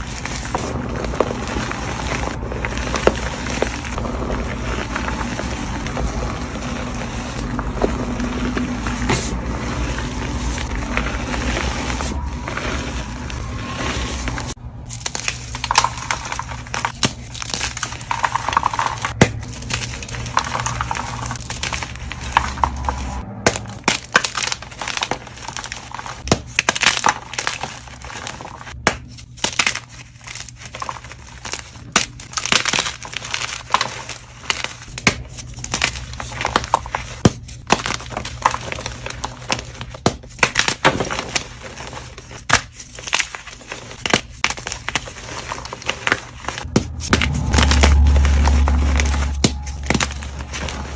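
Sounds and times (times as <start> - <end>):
chalk being crushed: 0.0 - 50.9.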